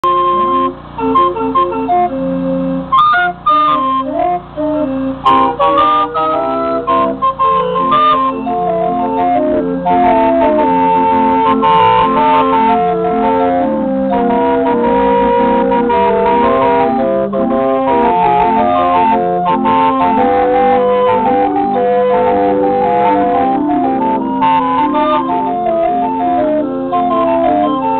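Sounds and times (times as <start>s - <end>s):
pipe organ playing a tune: 0.0s - 27.9s.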